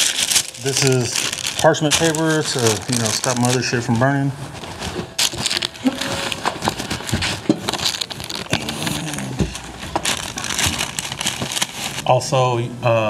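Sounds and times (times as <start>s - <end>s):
parchment paper rustling: 0.0s - 12.1s.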